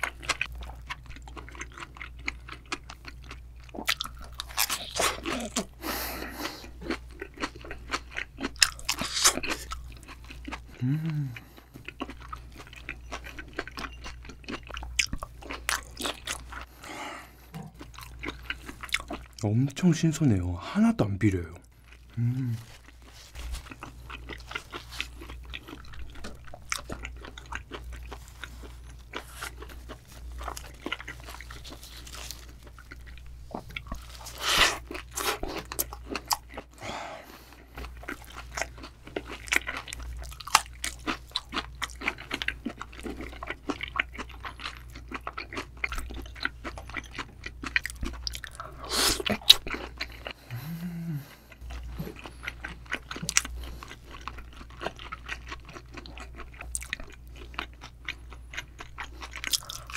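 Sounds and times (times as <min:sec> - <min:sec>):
wet crunchy chewing: 0:00.0 - 0:19.5, 0:21.3 - 0:59.9.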